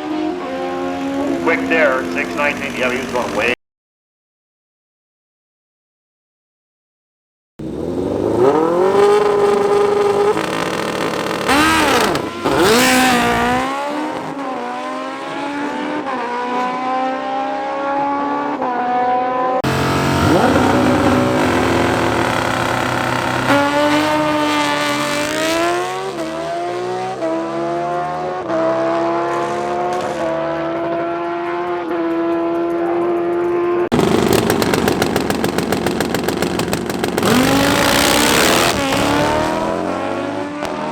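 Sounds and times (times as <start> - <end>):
motorcycle engines accelerating hard: 0.0 - 3.6, 7.6 - 40.9.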